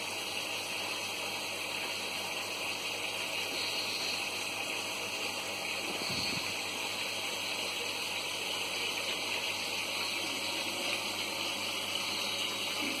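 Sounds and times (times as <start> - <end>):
aquarium water rushing hiss: 0.0 - 13.0.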